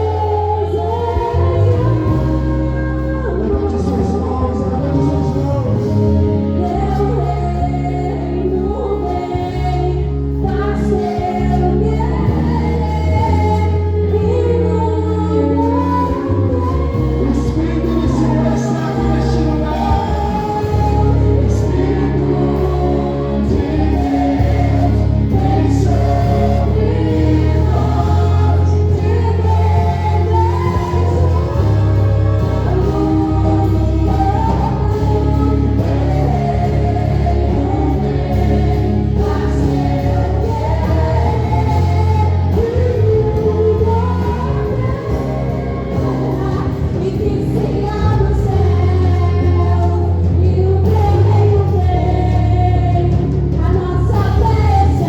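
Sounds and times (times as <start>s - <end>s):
band with bass: 0.0s - 55.0s
group of voices singing: 0.0s - 55.0s.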